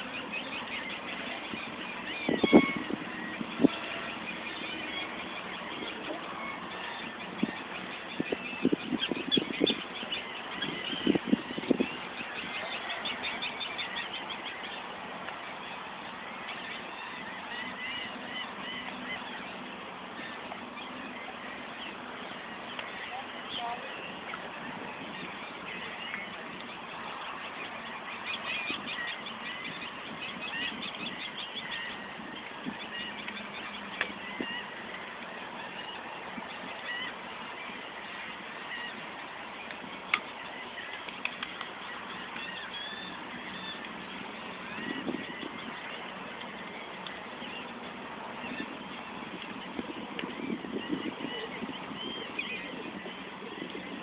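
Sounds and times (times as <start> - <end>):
constant hiss: 0.0 - 54.0
steady background noise: 0.0 - 54.0
water birds honking: 0.0 - 54.0.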